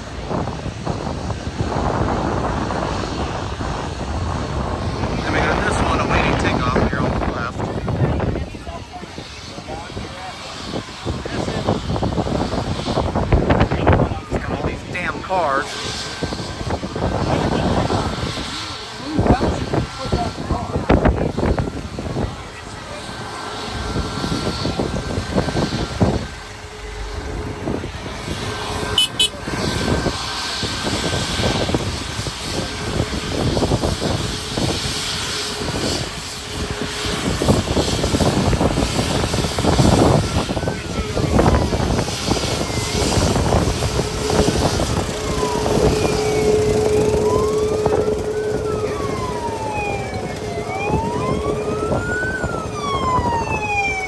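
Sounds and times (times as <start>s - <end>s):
emergency vehicle siren wailing: 0.0s - 54.0s
steady noisy background: 0.0s - 54.0s.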